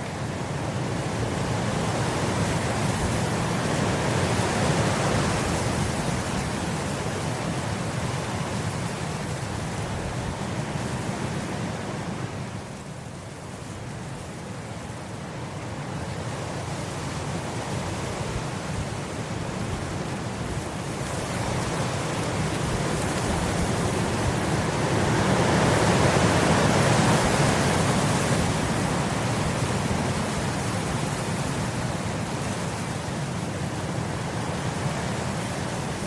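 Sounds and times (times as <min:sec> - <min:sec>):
wind blowing across grass: 0:00.0 - 0:36.0.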